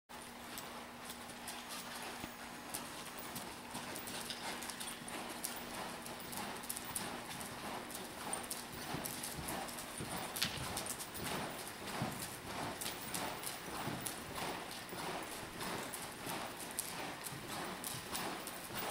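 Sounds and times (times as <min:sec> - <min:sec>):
horse hoofbeats on soft dirt: 0:00.1 - 0:18.9.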